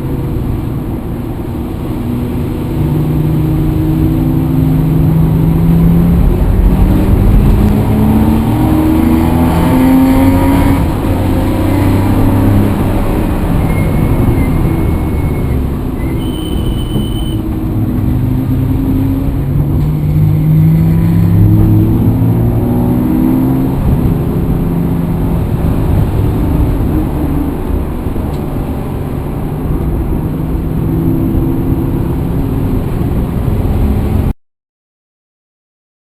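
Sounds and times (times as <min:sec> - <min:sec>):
vehicle engine rumbling: 0:00.0 - 0:34.4.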